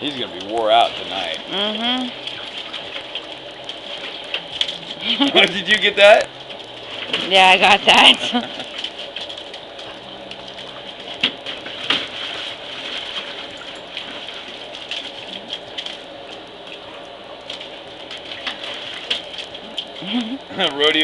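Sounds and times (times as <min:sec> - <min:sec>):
dogs splashing in water: 0:00.0 - 0:21.0
water patter and slosh: 0:00.0 - 0:21.0.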